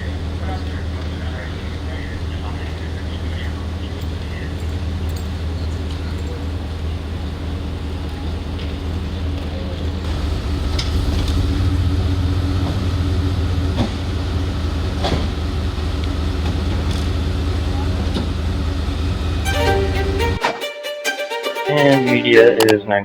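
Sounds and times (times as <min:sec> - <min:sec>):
vehicle engine hum: 0:00.0 - 0:20.4.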